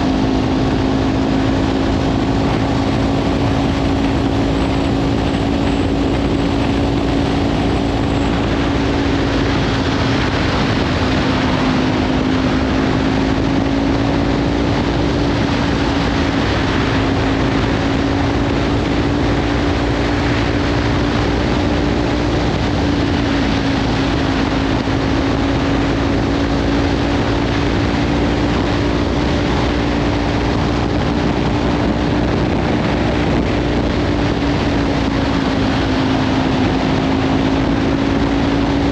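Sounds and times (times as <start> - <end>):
motorcycle engine cruising: 0.0 - 38.9
wind noise on microphone: 0.0 - 38.9.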